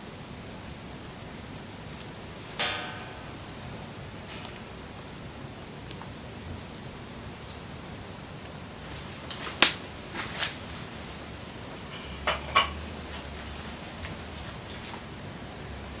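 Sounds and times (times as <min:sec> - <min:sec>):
wood fire hissing: 0:00.0 - 0:16.0
burning wood popping: 0:01.8 - 0:15.2.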